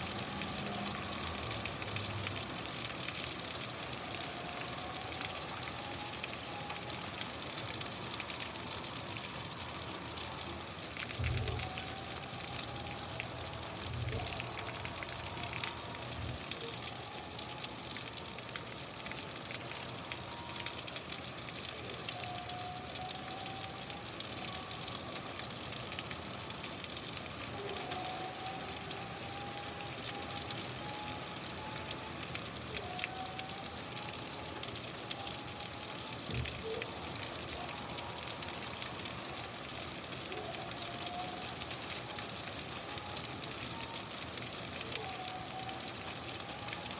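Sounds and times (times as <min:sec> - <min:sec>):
steady rain hiss: 0:00.0 - 0:46.9
faint whistle-like tones: 0:04.0 - 0:26.5, 0:27.4 - 0:46.9.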